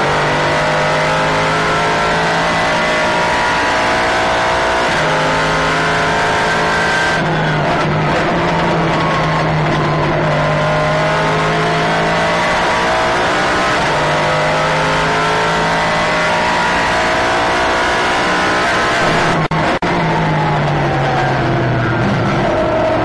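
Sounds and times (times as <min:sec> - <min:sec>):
race car engine running hard: 0:00.0 - 0:23.0.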